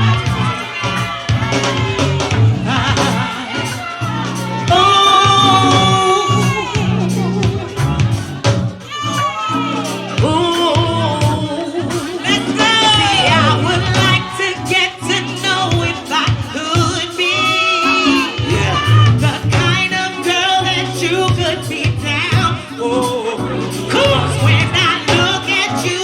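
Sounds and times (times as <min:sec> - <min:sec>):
percussion beat: 0:00.0 - 0:26.0
steady bass line: 0:00.0 - 0:26.0.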